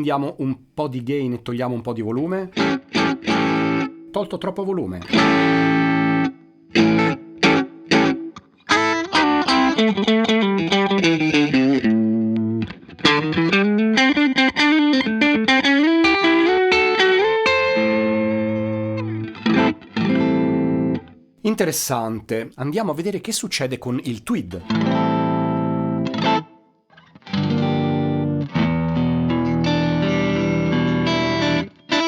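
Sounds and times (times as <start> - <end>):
lightly distorted electric guitar: 2.0 - 22.2, 24.0 - 32.0.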